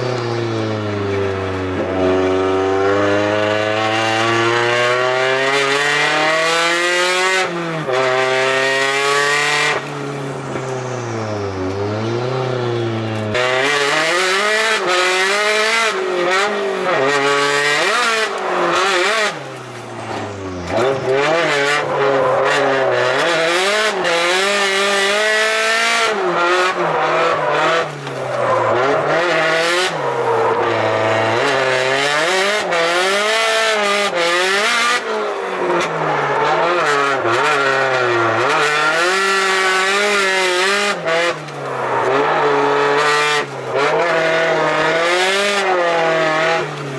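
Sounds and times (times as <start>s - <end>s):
car engine revving hard: 0.0s - 46.9s.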